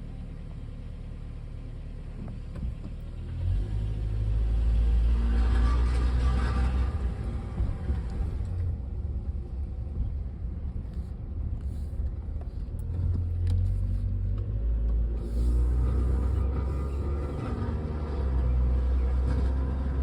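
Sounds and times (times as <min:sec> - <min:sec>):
car engine exhaust rumble: 0:00.0 - 0:20.0.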